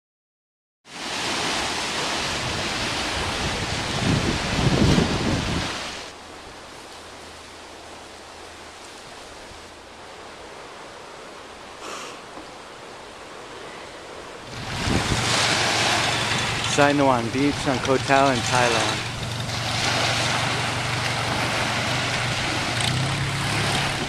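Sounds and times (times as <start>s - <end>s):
wind: 0.8s - 24.0s
surf: 0.9s - 24.0s.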